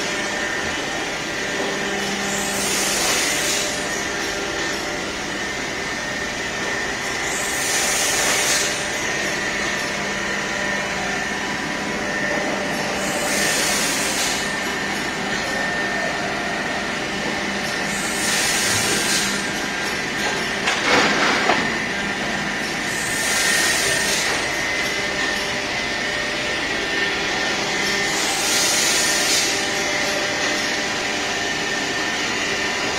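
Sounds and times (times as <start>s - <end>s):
machine humming with high whine: 0.0s - 32.9s.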